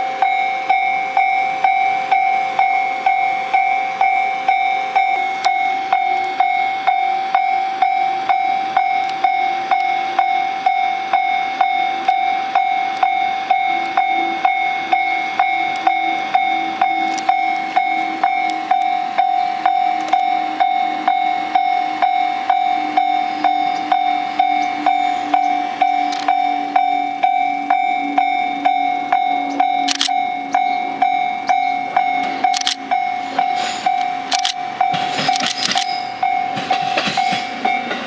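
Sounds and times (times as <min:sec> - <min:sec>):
level crossing warning bell: 0:00.0 - 0:38.0.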